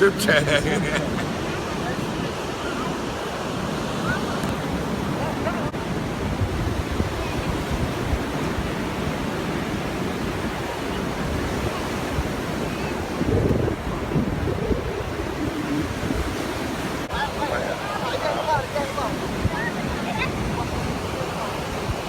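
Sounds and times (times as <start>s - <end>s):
sea waves washing ashore: 0.0s - 22.0s
wind buffeting microphone: 0.8s - 22.0s.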